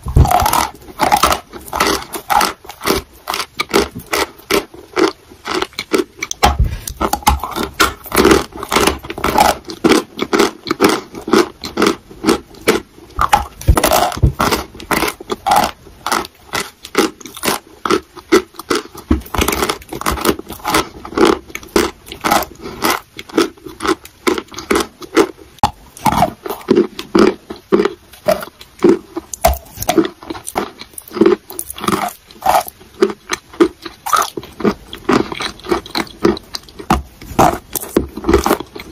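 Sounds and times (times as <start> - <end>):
chewing chalk crunches: 0.0 - 38.9.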